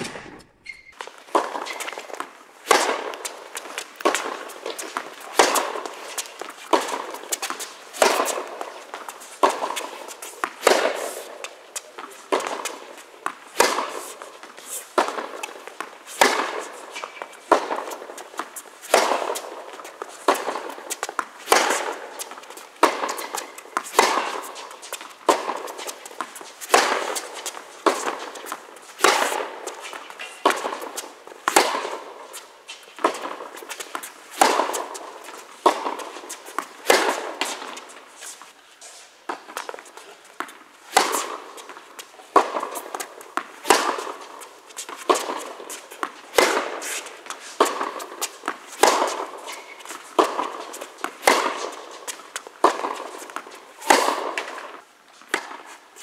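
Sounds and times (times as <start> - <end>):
ball bouncing on court: 0.0 - 11.1, 12.3 - 32.1, 33.0 - 37.8, 40.4 - 54.7
rackets striking tennis ball: 0.0 - 56.0.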